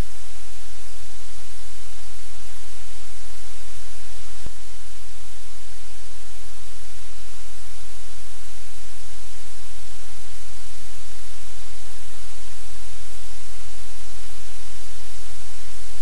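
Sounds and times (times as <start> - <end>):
loud static hiss: 0.0 - 16.0
low electrical hum: 0.0 - 16.0.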